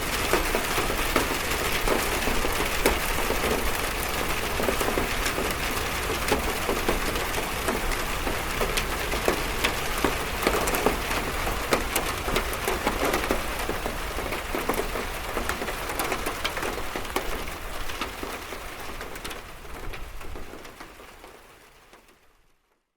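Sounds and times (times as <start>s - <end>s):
rain on a metal roof: 0.0s - 22.9s.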